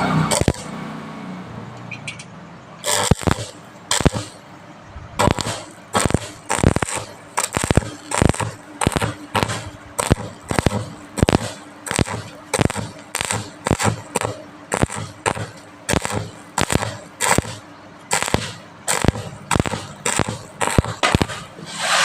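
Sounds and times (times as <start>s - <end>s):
welding crackle: 0.0s - 0.9s, 2.8s - 4.5s, 5.2s - 22.0s.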